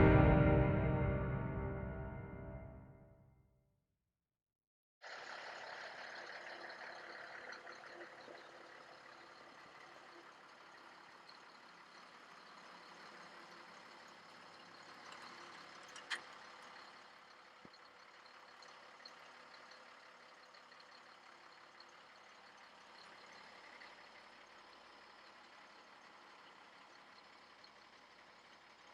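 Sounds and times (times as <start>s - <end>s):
engine idle hum: 0.0s - 2.6s, 5.0s - 28.9s.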